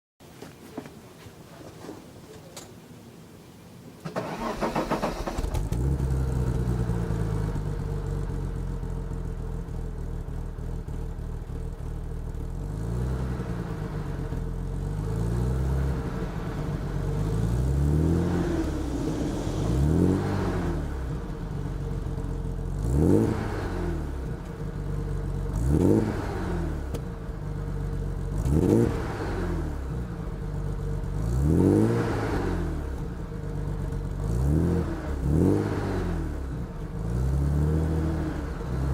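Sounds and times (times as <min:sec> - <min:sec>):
car engine exhaust revving: 0:04.2 - 0:38.9.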